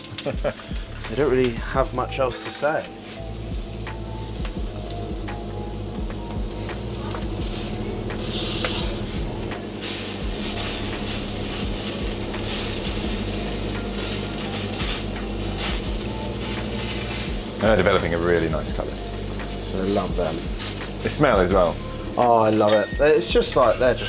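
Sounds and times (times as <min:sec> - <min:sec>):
scallops sizzling on a griddle: 0:00.0 - 0:24.0.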